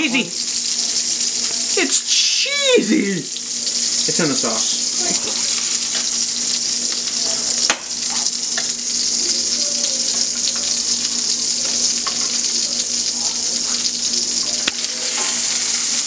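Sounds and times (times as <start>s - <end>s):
meatballs sizzling in hot oil: 0.0s - 16.0s.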